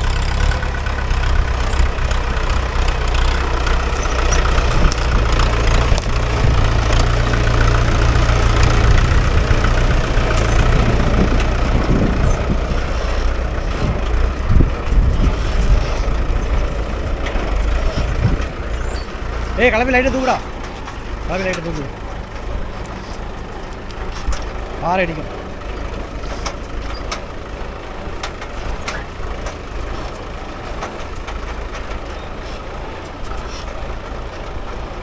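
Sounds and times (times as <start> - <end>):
knocks and rattles: 0.0 - 35.0
tractor diesel engine running: 0.0 - 35.0.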